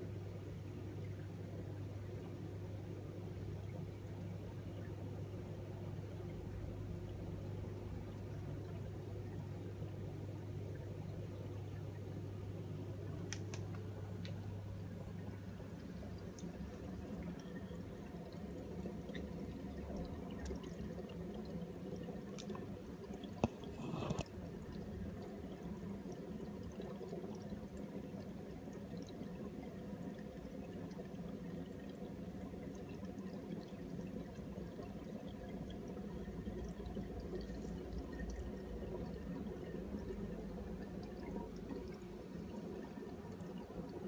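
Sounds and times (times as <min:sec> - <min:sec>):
aquarium water pouring and dripping: 0:00.0 - 0:44.0.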